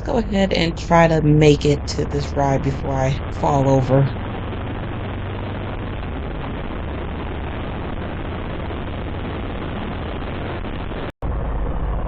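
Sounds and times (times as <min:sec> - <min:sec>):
motorcycle engine drone: 0:00.0 - 0:12.0
wind and road noise: 0:00.0 - 0:12.0.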